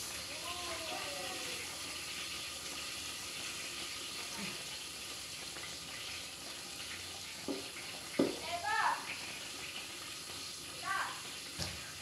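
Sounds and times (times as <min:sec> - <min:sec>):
soup boiling and sizzling: 0:00.0 - 0:12.0.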